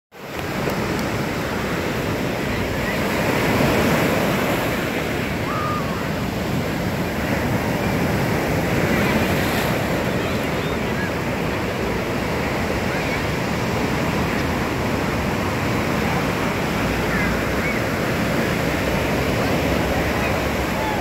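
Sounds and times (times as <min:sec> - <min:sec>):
ocean waves breaking: 0:00.2 - 0:21.0.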